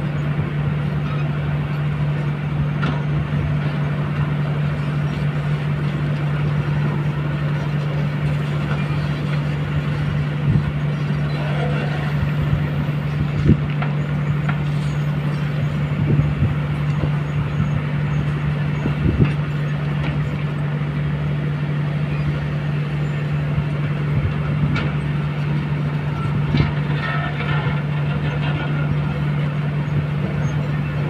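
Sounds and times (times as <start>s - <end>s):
excavator diesel engine droning: 0.0s - 31.0s.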